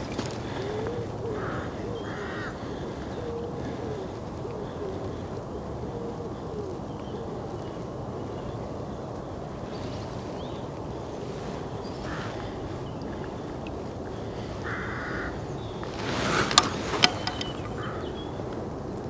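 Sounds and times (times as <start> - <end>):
birds calling: 0.0 - 19.0
wind on microphone: 0.0 - 19.0.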